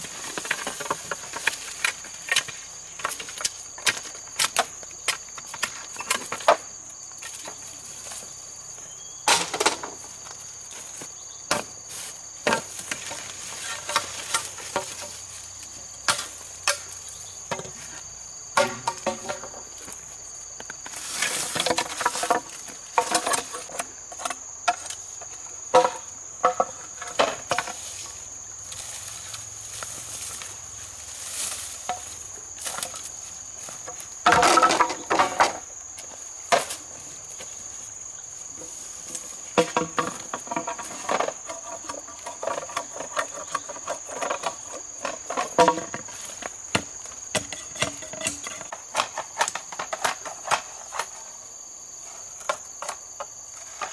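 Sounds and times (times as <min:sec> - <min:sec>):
insects trilling: 0:00.0 - 0:53.9.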